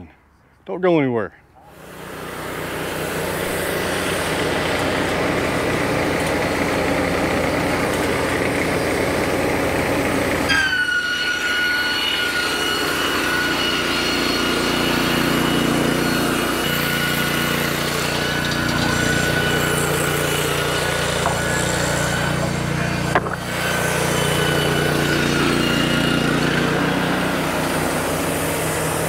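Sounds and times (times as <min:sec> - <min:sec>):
steady high whine: 0:01.5 - 0:29.0
board edger engine humming: 0:01.6 - 0:29.0.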